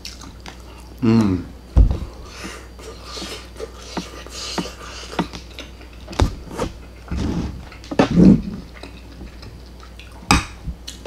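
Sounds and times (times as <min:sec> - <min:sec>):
soft chewing: 0:00.0 - 0:01.0, 0:02.2 - 0:11.0.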